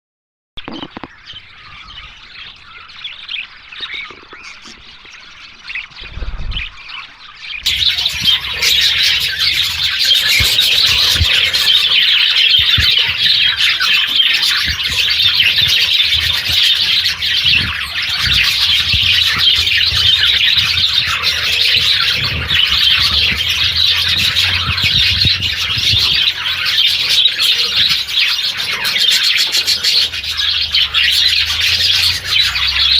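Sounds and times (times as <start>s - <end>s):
parrots chattering and squawking: 0.6s - 32.9s.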